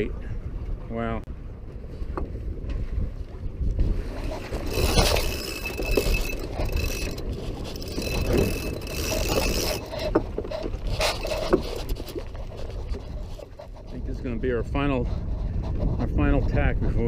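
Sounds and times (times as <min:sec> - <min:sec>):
water rushing along hull: 0:00.0 - 0:16.3
wind buffeting microphone: 0:00.0 - 0:17.0.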